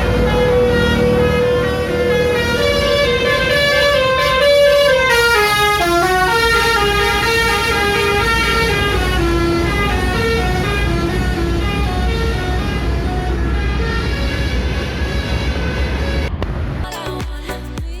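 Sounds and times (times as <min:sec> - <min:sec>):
bus musical horn playing a tune: 0:00.0 - 0:16.3.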